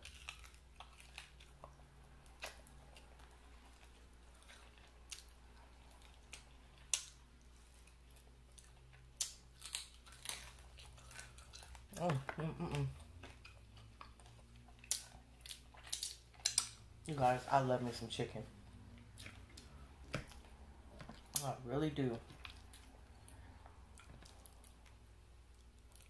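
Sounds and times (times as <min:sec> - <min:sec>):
chewing and mouth clicks: 0:00.0 - 0:17.2, 0:18.8 - 0:21.5, 0:22.2 - 0:26.0.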